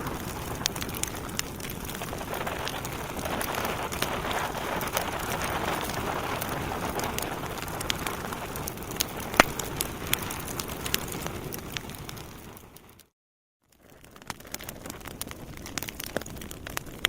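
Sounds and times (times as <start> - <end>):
wood fire snaps and pops: 0.0 - 13.1, 13.8 - 17.0.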